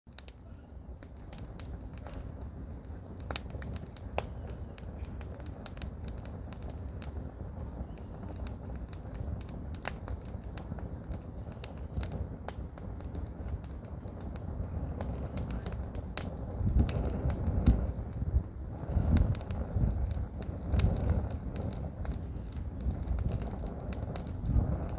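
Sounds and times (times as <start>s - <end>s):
firewood crackling and popping: 0.1s - 24.9s
low rumble of wind: 0.1s - 24.9s.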